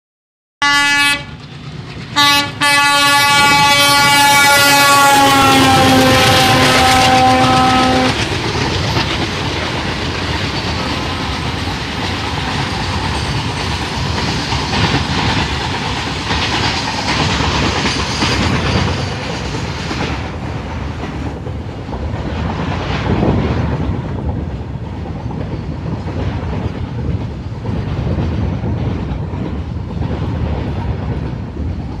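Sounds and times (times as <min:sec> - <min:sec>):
freight train rolling past: 0:00.6 - 0:32.0
wheels clacking over rail joints: 0:01.2 - 0:32.0.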